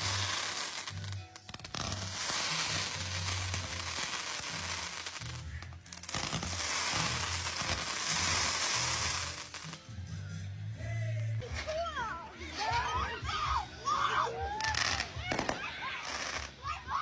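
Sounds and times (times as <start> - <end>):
fireworks crackling: 0.0 - 10.5, 11.3 - 13.5, 14.5 - 17.0
music with steady bass: 0.0 - 17.0.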